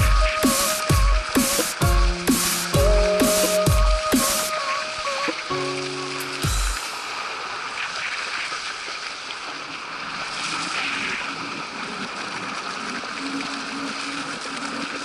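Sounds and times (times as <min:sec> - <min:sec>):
water rushing under kiteboard: 0:00.0 - 0:15.0.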